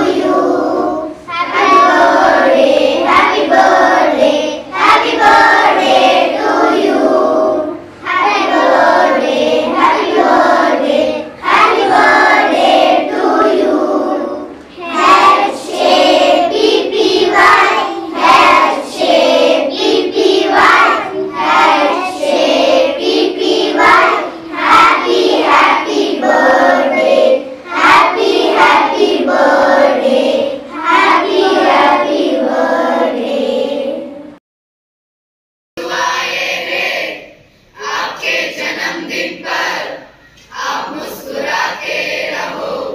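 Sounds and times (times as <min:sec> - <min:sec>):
children singing in chorus: 0:00.0 - 0:34.4, 0:35.8 - 0:42.9.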